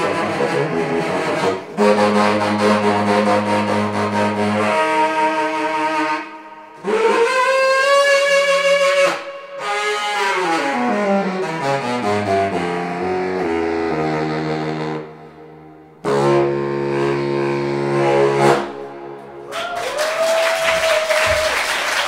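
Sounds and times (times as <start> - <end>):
baritone saxophone playing: 0.0 - 19.5.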